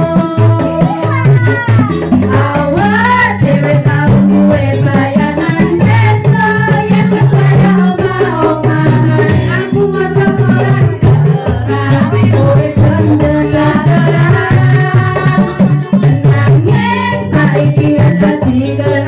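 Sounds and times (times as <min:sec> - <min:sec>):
electronic keyboard: 0:00.0 - 0:19.0
shaker-like beat: 0:00.0 - 0:19.0
stepping bass line: 0:00.0 - 0:19.0
woman singing pop song: 0:00.0 - 0:19.0.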